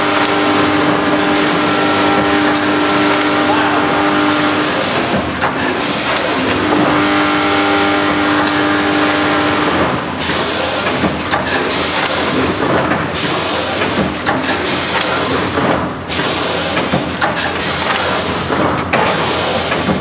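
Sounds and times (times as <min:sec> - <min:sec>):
packing machine running: 0:00.0 - 0:20.0.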